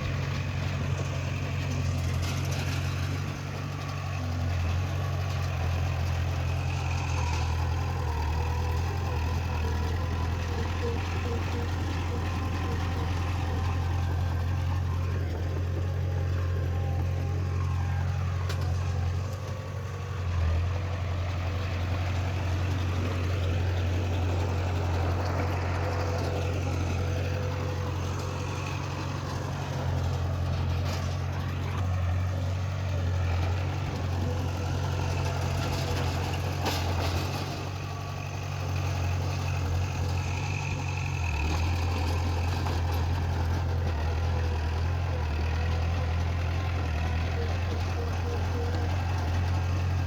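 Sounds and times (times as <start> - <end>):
heavy diesel engine droning: 0.0 - 50.0.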